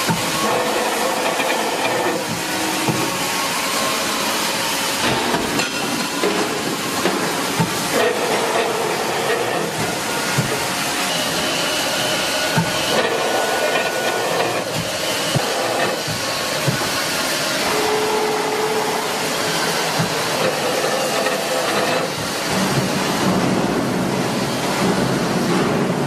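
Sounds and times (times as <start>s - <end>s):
pipe cutting machine running: 0.0s - 26.0s.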